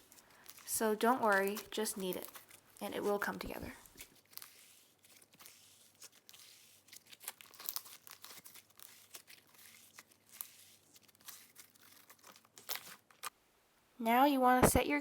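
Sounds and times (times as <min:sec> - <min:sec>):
hands kneading slime: 0:00.0 - 0:13.3
slime crackling and popping: 0:00.0 - 0:13.3.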